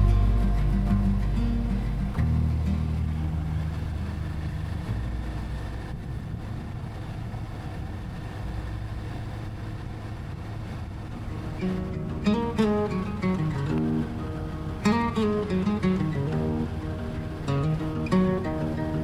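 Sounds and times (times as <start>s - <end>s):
motorcycle engine rumbling: 0.0s - 8.2s, 10.8s - 19.0s.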